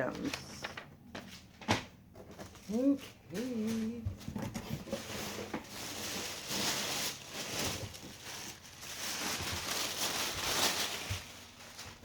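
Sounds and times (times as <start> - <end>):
packaging rustling and crinkling: 2.2 - 12.0.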